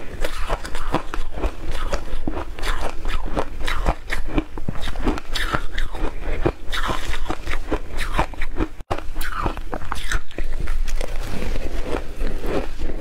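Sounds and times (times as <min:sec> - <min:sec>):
ice crunching being chewed: 0:00.0 - 0:13.0.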